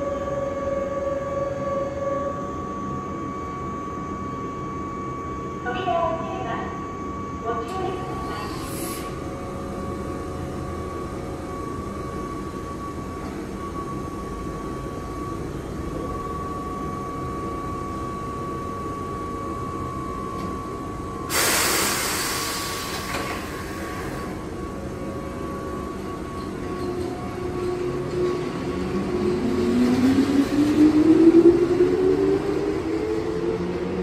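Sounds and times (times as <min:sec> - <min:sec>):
train hum: 0:00.0 - 0:34.0.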